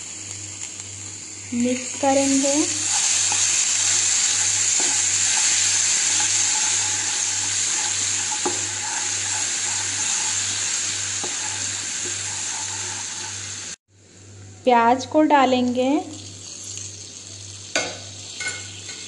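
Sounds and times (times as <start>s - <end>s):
hot oil sizzling: 0.0s - 14.2s, 15.2s - 19.0s.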